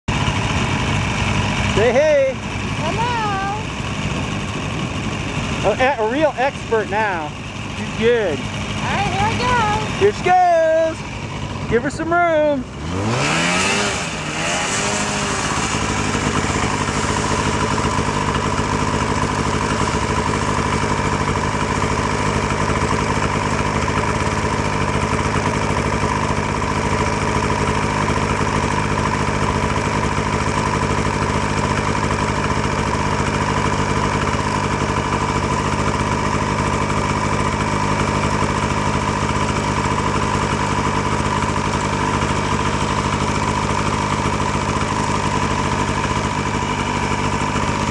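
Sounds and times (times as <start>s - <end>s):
snowmobile engine running: 0.1s - 47.9s.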